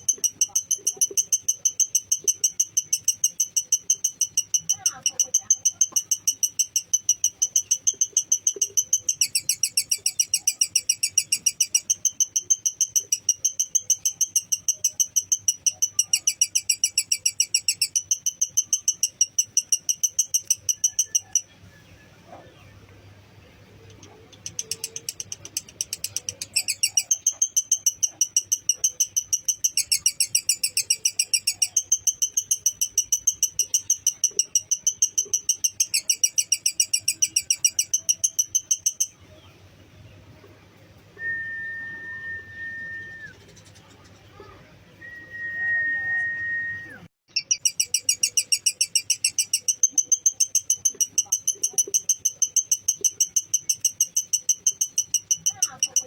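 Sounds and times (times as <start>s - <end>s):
lovebird chattering song: 0.0s - 22.2s, 23.4s - 40.2s, 43.1s - 44.6s, 47.3s - 56.0s.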